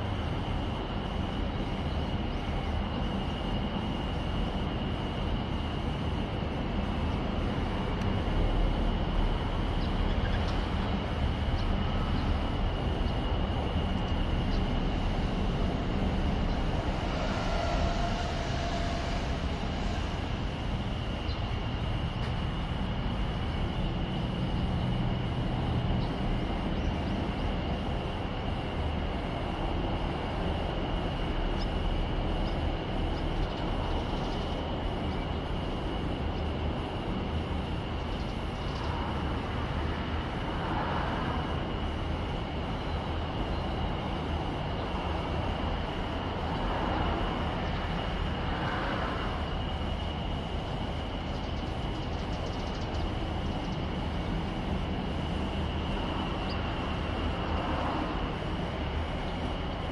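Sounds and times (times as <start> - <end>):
jet airplane flying overhead: 2.5 - 59.9.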